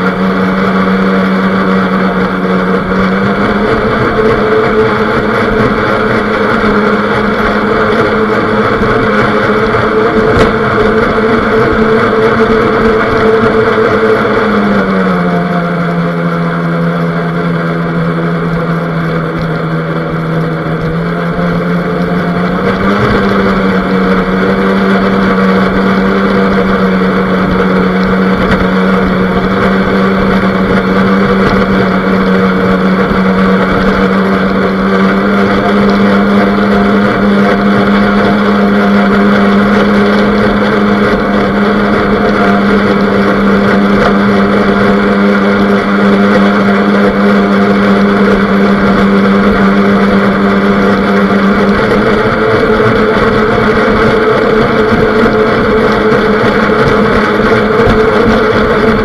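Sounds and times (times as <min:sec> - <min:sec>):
boat motor humming: 0:00.0 - 0:59.0
water rushing along hull: 0:00.0 - 0:59.0.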